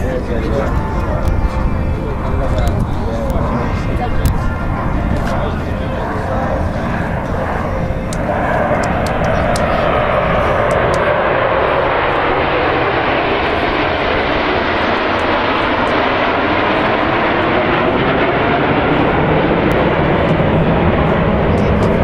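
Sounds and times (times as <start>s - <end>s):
jets flying overhead: 0.0s - 22.0s.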